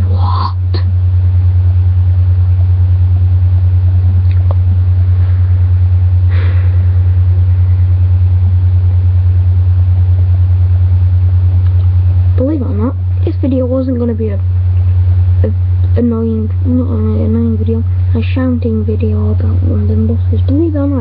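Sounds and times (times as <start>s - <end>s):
pulsing low hum: 0.0s - 21.0s.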